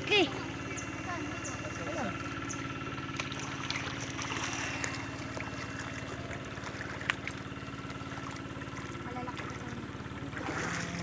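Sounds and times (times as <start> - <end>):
electrofishing unit buzzing hum: 0.0 - 11.0
water splashing from wading: 0.0 - 11.0.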